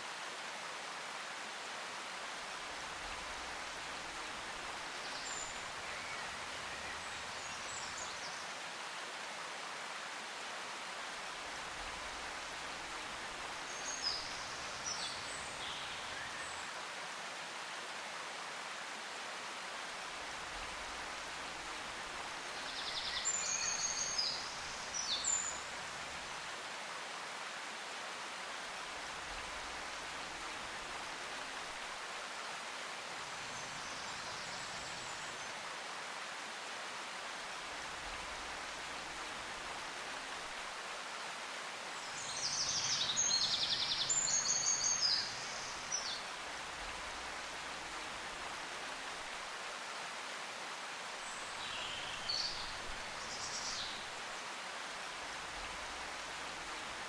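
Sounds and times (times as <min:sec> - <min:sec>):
steady outdoor hiss: 0:00.0 - 0:57.0.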